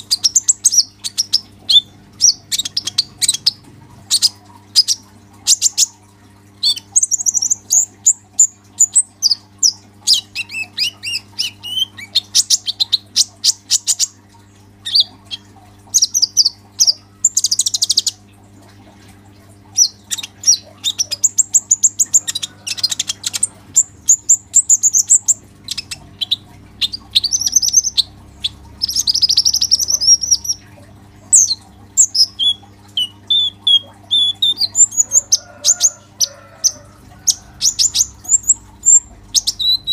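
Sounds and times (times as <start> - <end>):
bird singing high chirps and trills: 0.0 - 6.0, 6.6 - 14.2, 14.8 - 18.2, 19.7 - 39.9
steady low hum: 0.0 - 39.9.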